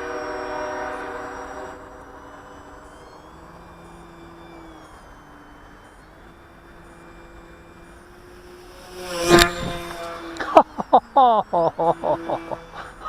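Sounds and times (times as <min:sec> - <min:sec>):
model plane motor humming: 0:00.0 - 0:13.0.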